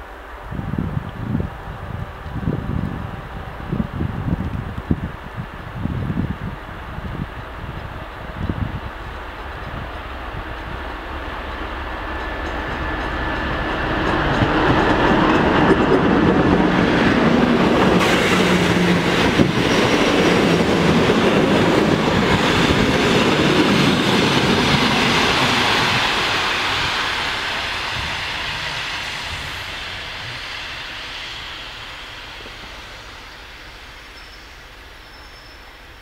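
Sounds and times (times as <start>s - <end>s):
diesel locomotive engine: 0.0s - 36.0s
train coaches rolling by: 0.0s - 36.0s.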